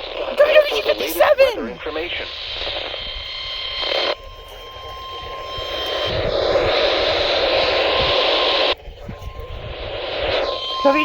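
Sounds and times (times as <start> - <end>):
faint steady tone: 0.0 - 11.0
radio receiver hiss: 0.0 - 11.0.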